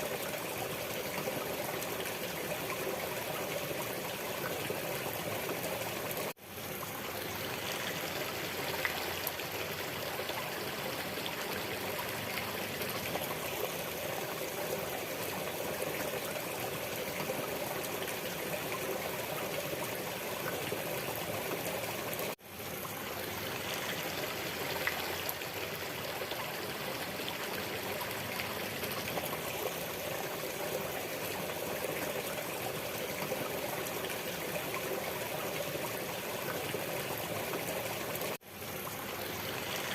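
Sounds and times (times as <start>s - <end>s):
waterfall flowing and splashing: 0.0s - 39.9s.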